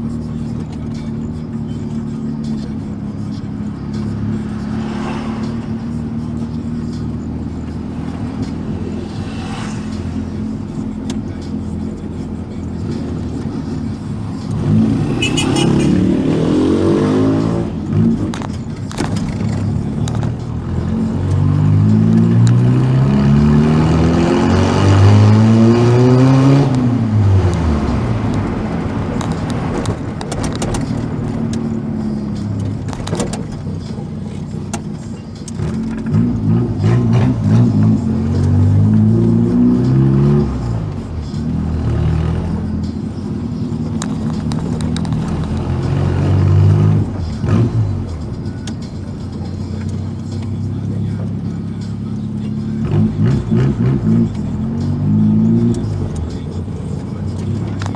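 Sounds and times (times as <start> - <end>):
car engine with loud exhaust: 0.0 - 57.9.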